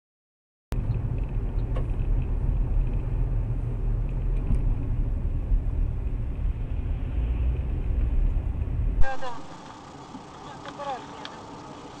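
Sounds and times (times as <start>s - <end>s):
car engine and road noise: 0.7s - 12.0s.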